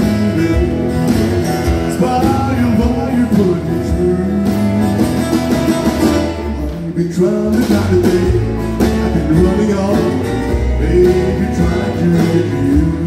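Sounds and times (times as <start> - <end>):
strummed acoustic guitars: 0.0 - 13.0.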